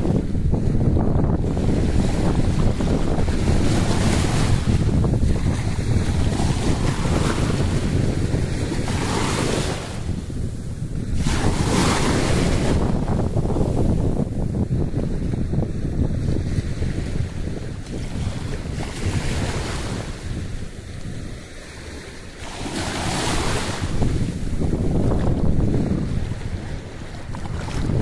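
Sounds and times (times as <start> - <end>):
small waves washing over sand: 0.0 - 28.0
wind buffeting microphone: 0.0 - 28.0.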